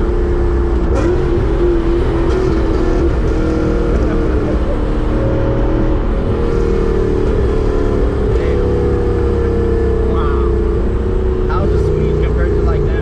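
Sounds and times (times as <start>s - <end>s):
loud car engine running: 0.0s - 13.0s.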